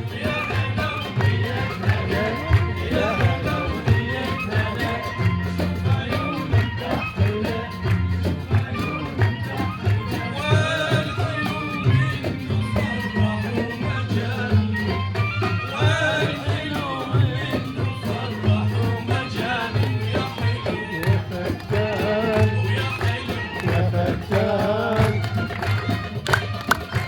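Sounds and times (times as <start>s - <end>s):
person singing: 0.0s - 26.8s
live band playing folk song: 0.0s - 27.0s.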